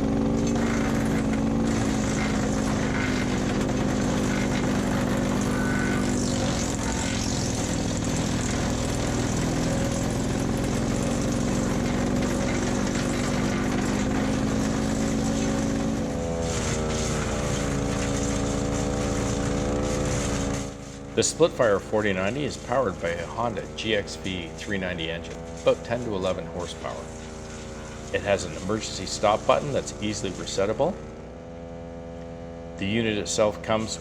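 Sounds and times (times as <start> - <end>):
chipping dry wood: 0.0 - 24.0, 24.8 - 31.2
wood chipper engine running: 0.0 - 34.0.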